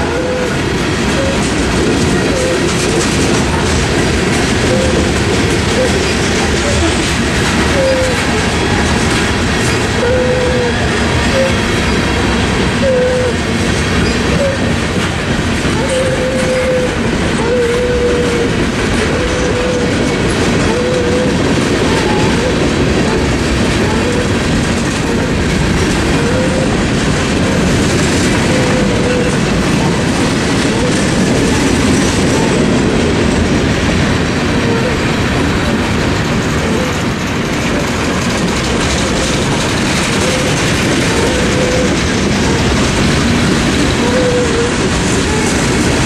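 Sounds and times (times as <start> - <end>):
wheels squealing: 0.0 - 33.6, 36.5 - 46.0
freight train wheels rumbling: 0.0 - 46.0.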